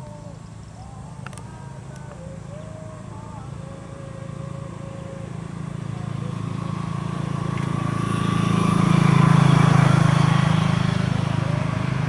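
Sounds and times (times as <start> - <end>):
vehicle engine passing by: 2.2 - 12.0.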